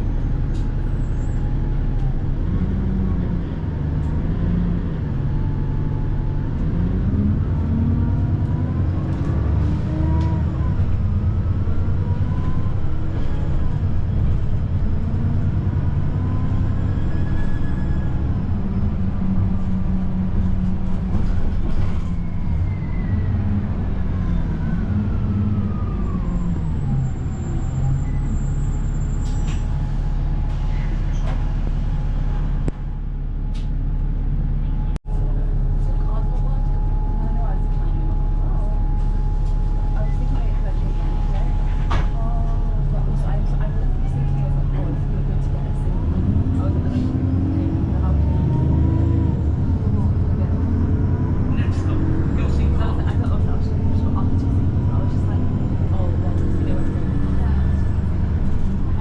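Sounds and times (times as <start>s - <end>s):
bus drivetrain whine: 0.0s - 59.0s
bus engine from inside cabin: 0.0s - 59.0s.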